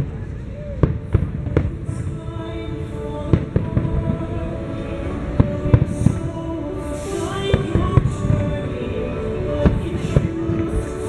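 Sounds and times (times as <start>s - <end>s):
continuous low rumble: 0.0s - 11.0s
fireworks bursting with sharp bangs: 0.0s - 11.0s.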